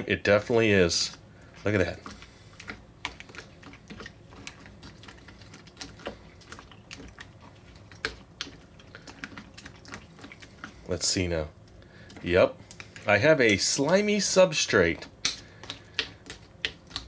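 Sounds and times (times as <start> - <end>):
plastic spoon stirring in bowl: 0.0 - 17.0.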